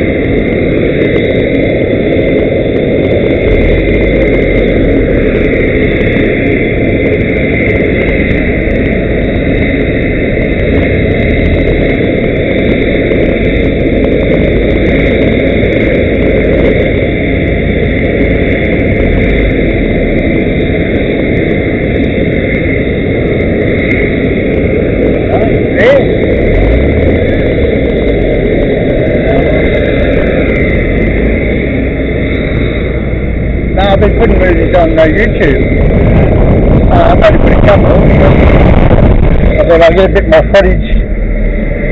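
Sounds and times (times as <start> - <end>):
aircraft turbine engines whining: 0.0 - 41.9.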